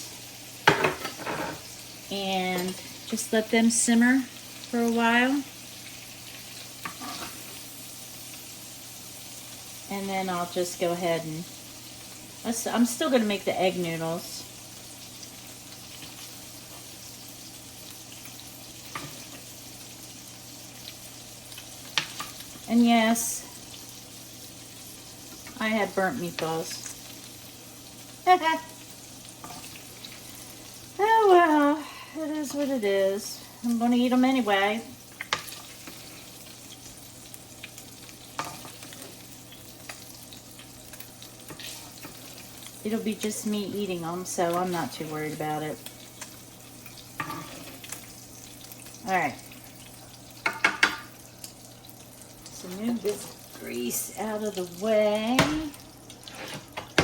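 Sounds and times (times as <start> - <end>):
meatballs sizzling in a pan: 0.0 - 57.0.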